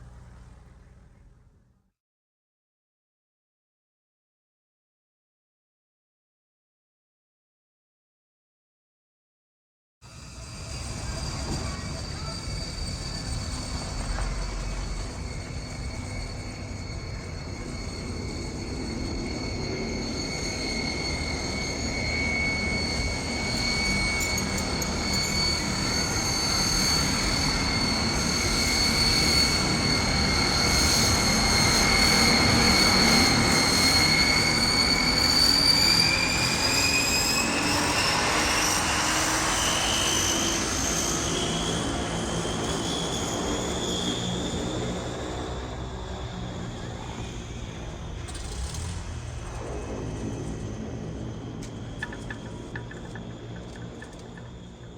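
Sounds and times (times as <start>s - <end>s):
jet engine whine and roar: 10.0s - 54.9s.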